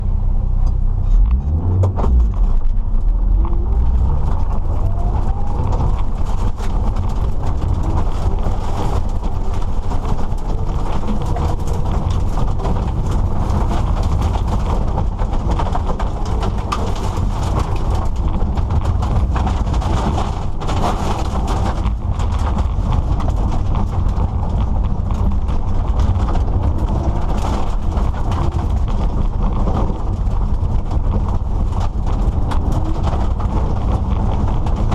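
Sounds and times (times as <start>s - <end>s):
car engine drone: 0.0s - 34.9s.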